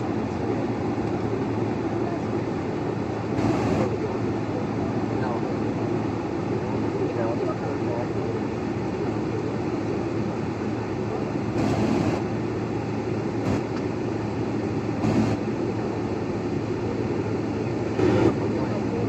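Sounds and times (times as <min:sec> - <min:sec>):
airliner cabin hum: 0:00.0 - 0:19.0.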